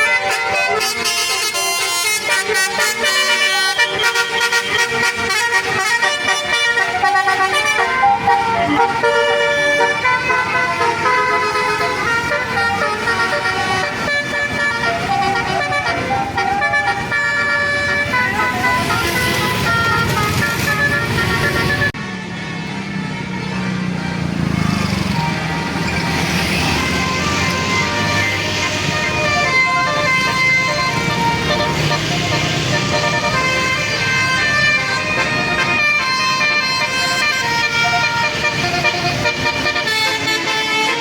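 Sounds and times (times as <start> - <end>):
multi-trumpet air horn melody: 0.0 - 24.6, 25.3 - 41.0
bus engine and road noise: 0.0 - 41.0.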